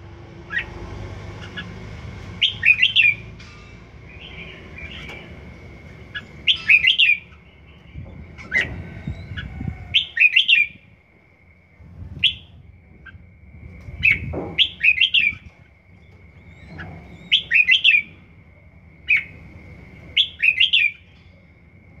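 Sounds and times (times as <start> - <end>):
bird singing warbled phrases: 0.4 - 11.0, 12.2 - 21.8.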